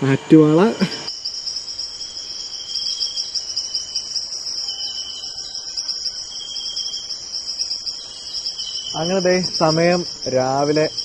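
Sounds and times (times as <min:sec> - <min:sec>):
lower insect trill: 0:00.3 - 0:11.0
crickets trilling: 0:00.4 - 0:11.0.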